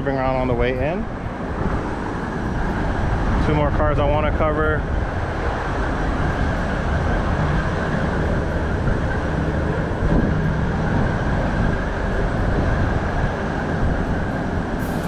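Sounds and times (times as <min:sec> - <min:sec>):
steady rumbling noise: 0:00.0 - 0:15.0.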